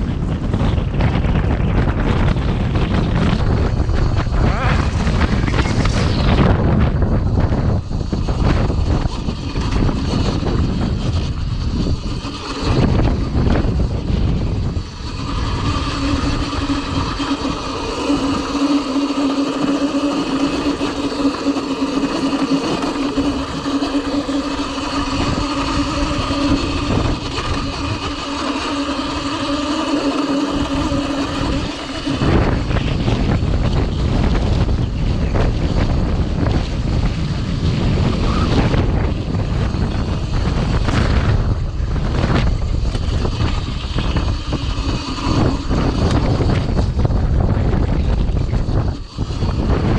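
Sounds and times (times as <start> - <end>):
electric motor whining: 0.0 - 49.9
wind rumble on microphone: 0.0 - 49.9.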